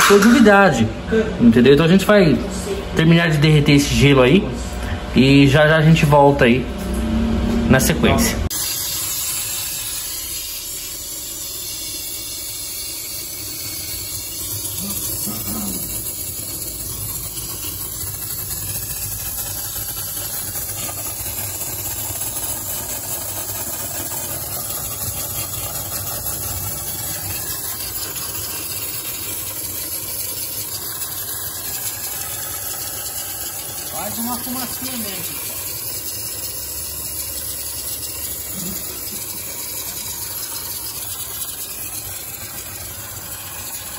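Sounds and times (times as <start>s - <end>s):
steam cleaner hissing: 7.8s - 43.9s.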